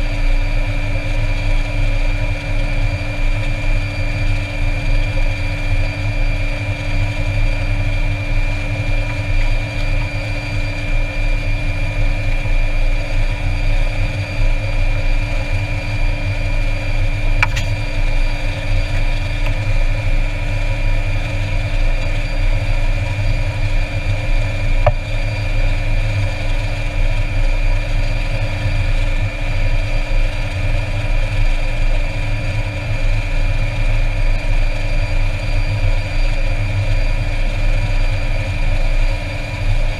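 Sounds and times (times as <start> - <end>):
turboprop engine idling: 0.0 - 39.9.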